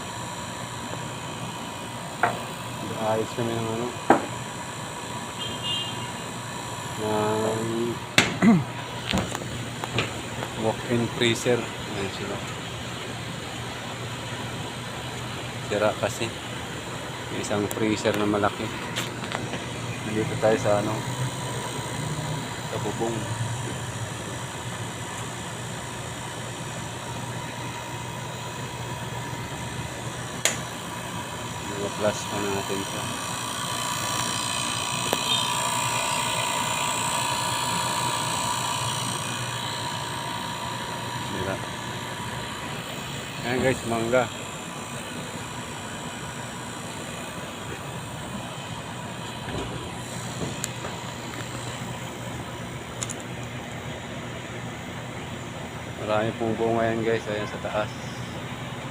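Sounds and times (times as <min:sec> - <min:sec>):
refrigeration unit humming: 0:00.0 - 0:58.9.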